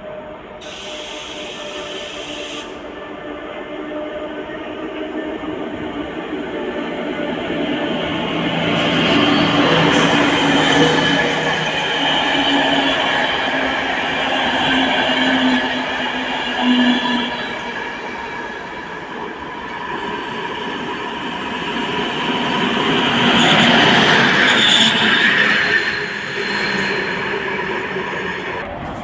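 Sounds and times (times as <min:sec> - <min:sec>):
diesel locomotive engine: 0:00.0 - 0:29.0
train wheels rolling on rails: 0:03.8 - 0:29.0.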